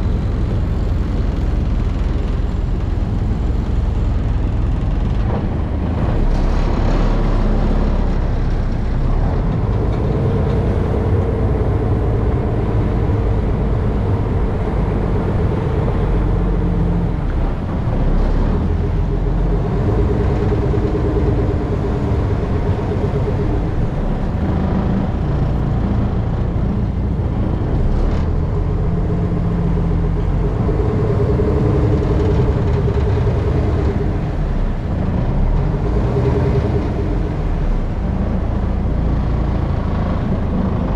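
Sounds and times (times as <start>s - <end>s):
droning hum: 0.0s - 40.9s
low engine rumble: 0.0s - 40.9s.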